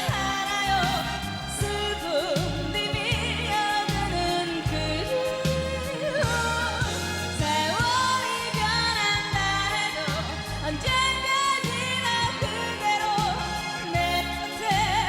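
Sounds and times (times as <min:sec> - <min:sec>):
pop band accompaniment: 0:00.0 - 0:15.0
woman singing: 0:00.0 - 0:15.0.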